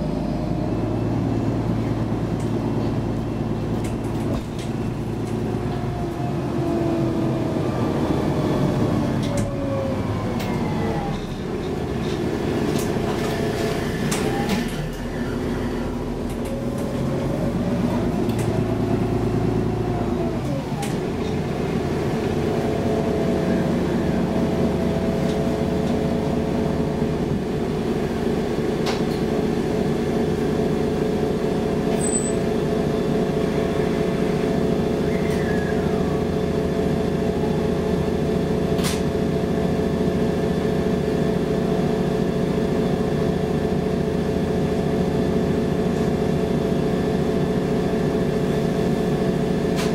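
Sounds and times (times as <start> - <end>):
bus diesel engine droning: 0.0 - 49.9.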